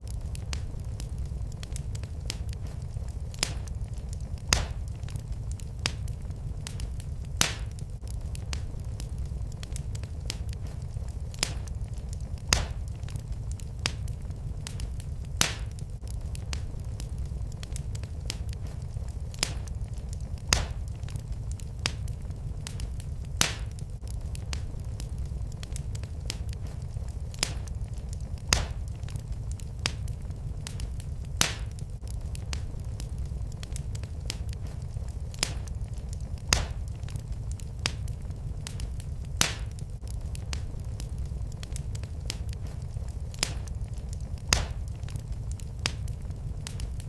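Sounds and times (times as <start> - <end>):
fire low rumble: 0.0 - 47.0
loud fire snaps: 0.0 - 47.0
wood fire crackling: 0.0 - 47.0.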